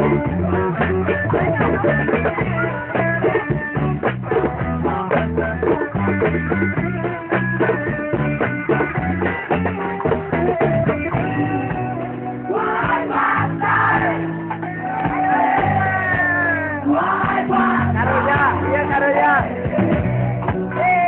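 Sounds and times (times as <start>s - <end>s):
live band playing guitar and drums: 0.0s - 21.0s.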